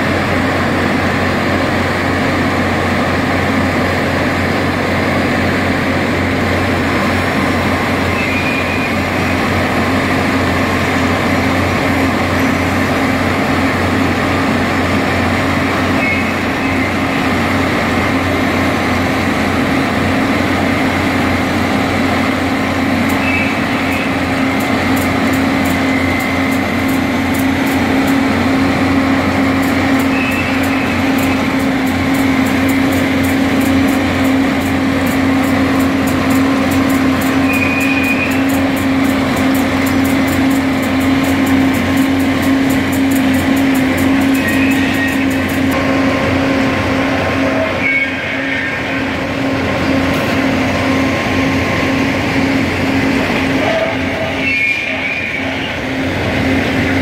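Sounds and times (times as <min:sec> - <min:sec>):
track machinery low drone: 0:00.0 - 0:57.0.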